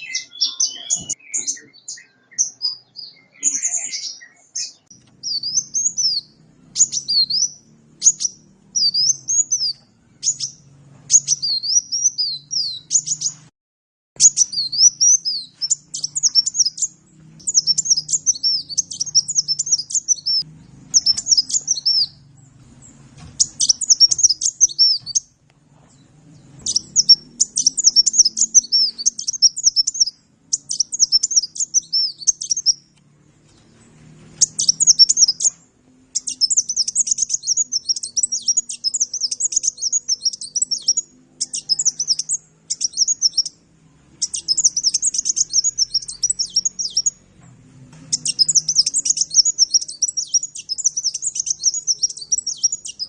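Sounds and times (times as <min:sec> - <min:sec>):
sunbird twittering song: 0:00.0 - 0:13.5, 0:14.2 - 0:43.6, 0:44.2 - 0:47.4, 0:48.1 - 0:53.0.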